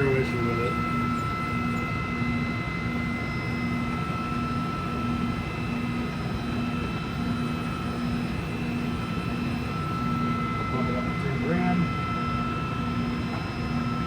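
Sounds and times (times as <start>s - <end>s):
machine hum: 0.0s - 14.0s
machine spindle high whine: 0.0s - 14.0s.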